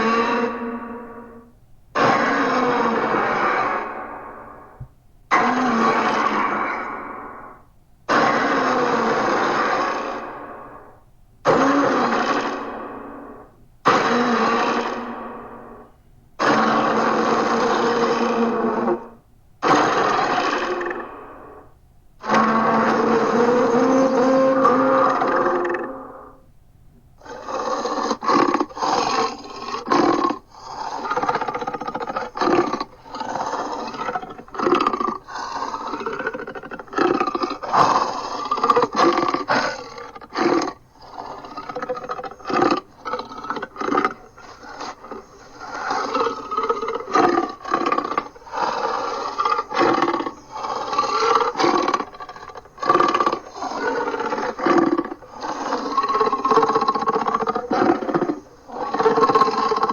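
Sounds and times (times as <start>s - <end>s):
monster growling calls: 0.0s - 10.9s, 11.5s - 26.4s, 27.2s - 59.9s.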